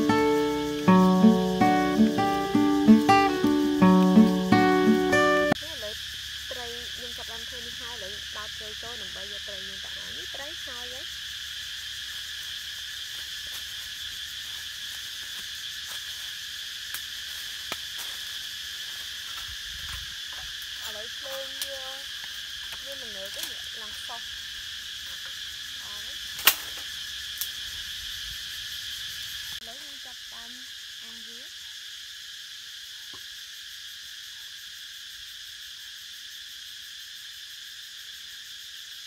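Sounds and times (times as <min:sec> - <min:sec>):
insect chorus drone: 0:00.0 - 0:39.0.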